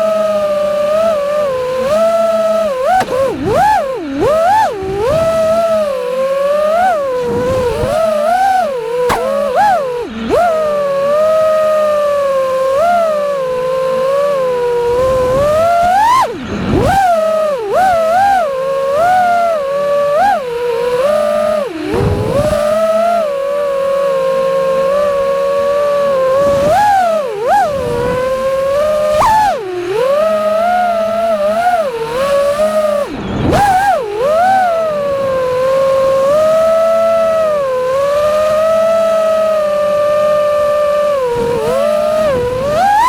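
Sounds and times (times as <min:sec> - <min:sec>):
quadcopter motors whining: 0:00.0 - 0:43.0.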